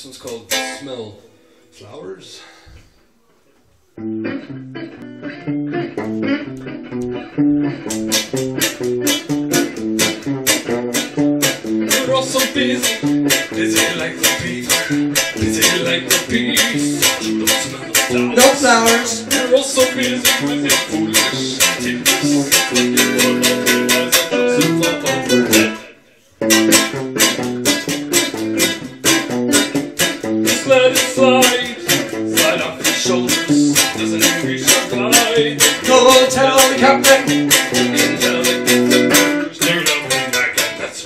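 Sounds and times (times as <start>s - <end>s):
acoustic strings strumming: 0.2s - 2.0s, 4.0s - 41.0s.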